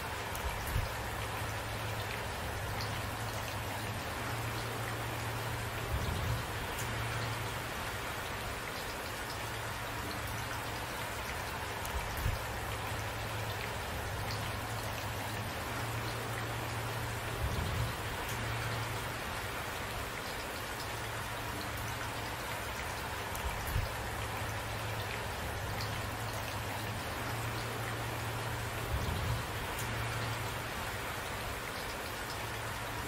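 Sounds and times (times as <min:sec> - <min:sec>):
rain pattering: 0:00.0 - 0:33.0.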